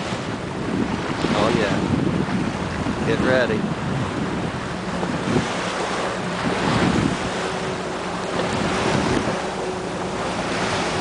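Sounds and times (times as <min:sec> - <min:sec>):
water lapping around boat: 0:00.0 - 0:11.0
wind buffeting microphone: 0:00.0 - 0:11.0.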